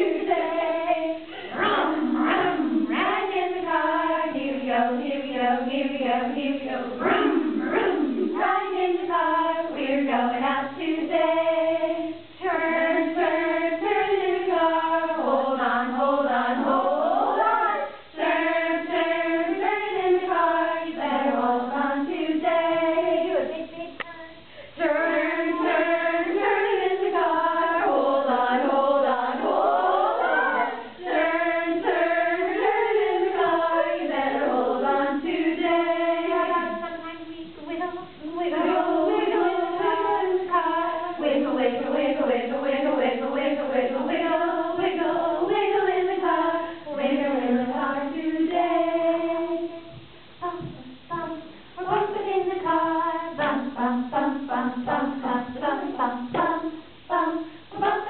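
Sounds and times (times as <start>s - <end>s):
women singing without instruments: 0.0s - 58.0s.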